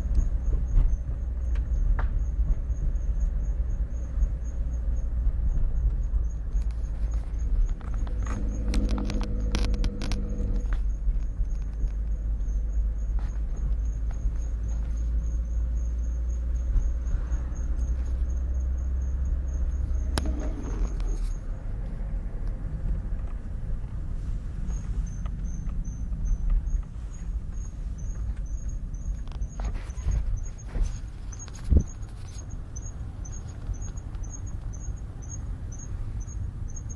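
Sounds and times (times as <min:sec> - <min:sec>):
brake squeak chirping: 0:00.0 - 0:22.1, 0:23.0 - 0:36.9
road rumble: 0:00.0 - 0:36.9.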